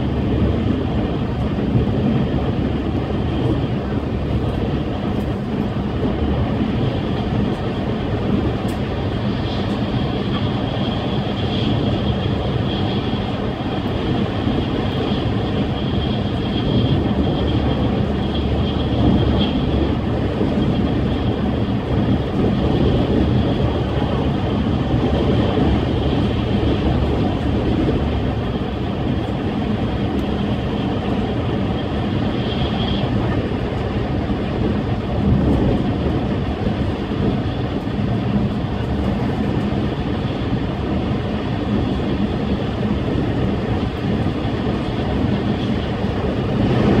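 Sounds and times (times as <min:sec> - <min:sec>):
train low rumble: 0:00.0 - 0:47.0.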